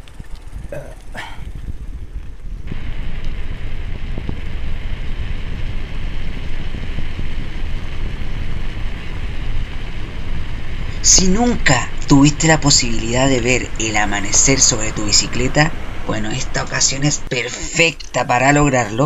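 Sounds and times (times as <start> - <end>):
wind rumbling on microphone: 0.0 - 19.0
steady high hiss: 2.7 - 19.0.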